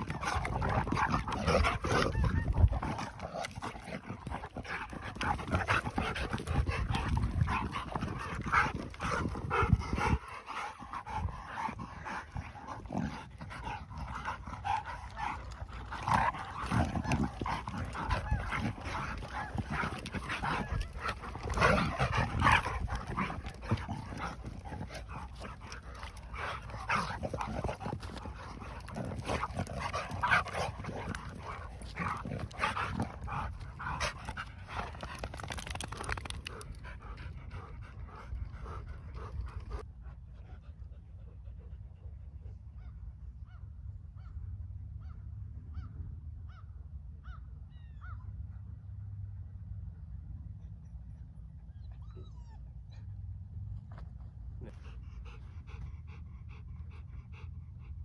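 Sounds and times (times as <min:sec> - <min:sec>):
dogs play-wrestling and vocalising: 0:00.0 - 0:42.5, 0:53.9 - 0:58.0.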